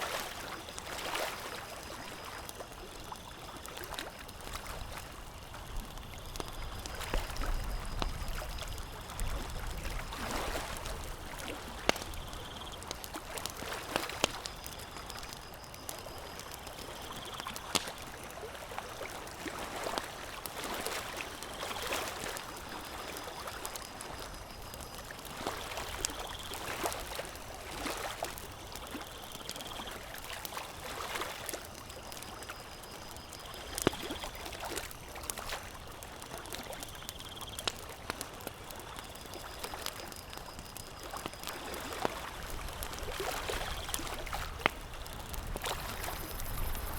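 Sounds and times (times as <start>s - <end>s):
small waves lapping at shore: 0.0s - 46.9s
campfire popping: 0.1s - 46.9s.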